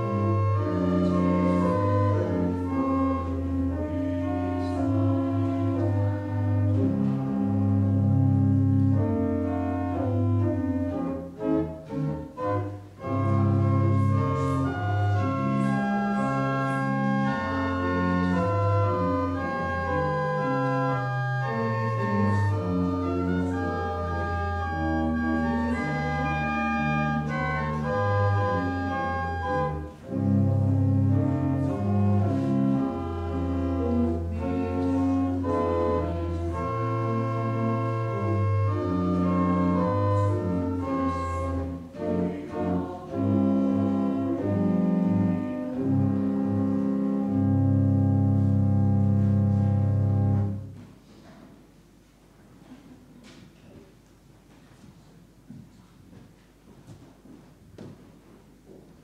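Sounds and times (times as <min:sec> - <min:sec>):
church organ sustained chords: 0:00.0 - 0:50.7.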